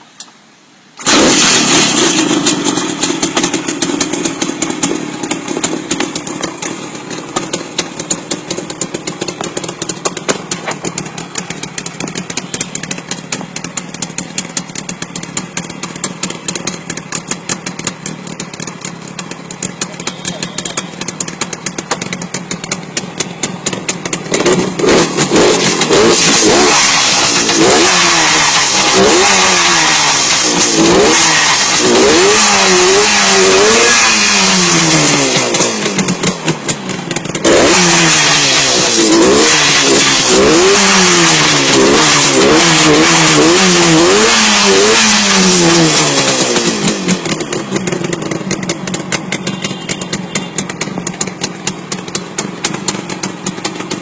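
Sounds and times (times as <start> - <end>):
two-stroke engine idling and revving: 0.9 - 54.0.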